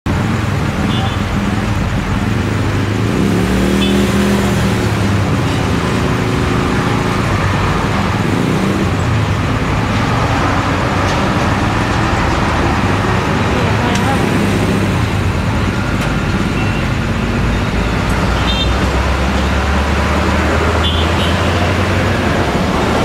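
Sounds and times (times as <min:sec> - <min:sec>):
traffic noise: 0:00.0 - 0:23.0
diesel trucks passing: 0:00.1 - 0:23.0.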